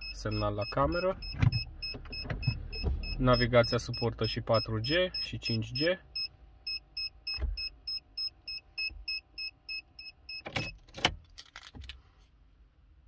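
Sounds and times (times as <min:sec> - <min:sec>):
parking sensor beeping: 0:00.0 - 0:10.9.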